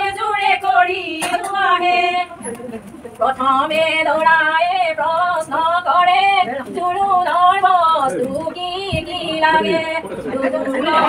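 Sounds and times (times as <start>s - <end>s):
women singing long wavering notes: 0.0s - 2.5s, 3.2s - 11.0s.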